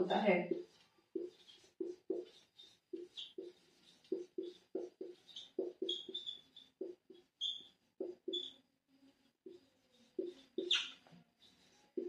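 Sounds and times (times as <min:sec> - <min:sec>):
marker pen on whiteboard: 0:00.0 - 0:12.0.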